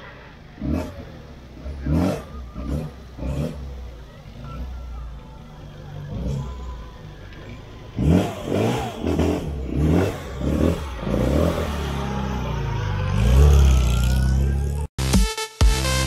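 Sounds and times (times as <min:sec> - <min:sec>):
vehicle engine revving: 0:00.0 - 0:05.0, 0:05.8 - 0:14.9.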